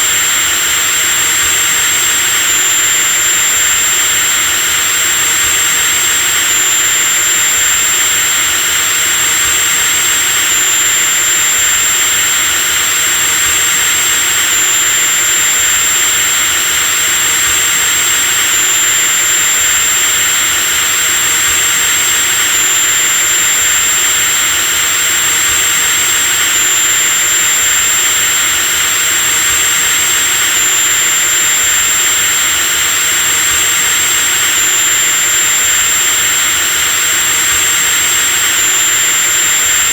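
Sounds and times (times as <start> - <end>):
power drill whining: 0.0 - 39.9.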